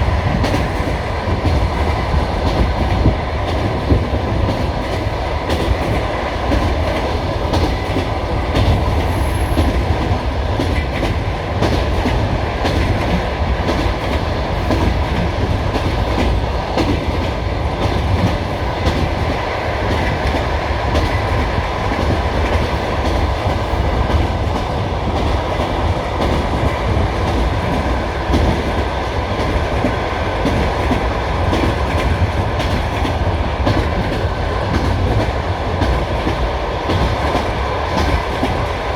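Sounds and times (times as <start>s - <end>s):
train carriage rumbling: 0.0s - 38.9s.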